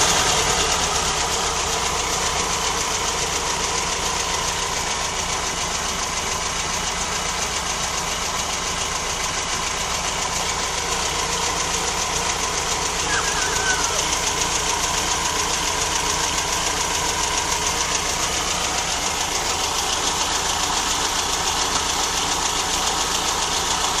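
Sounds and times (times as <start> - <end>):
air-cooled engine running: 0.0 - 24.0.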